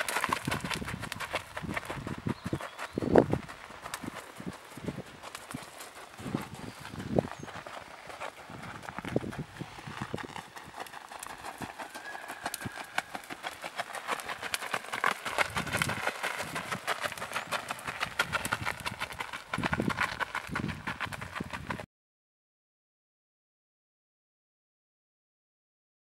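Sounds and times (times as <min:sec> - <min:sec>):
horse hooves on gravel: 0:00.0 - 0:21.8.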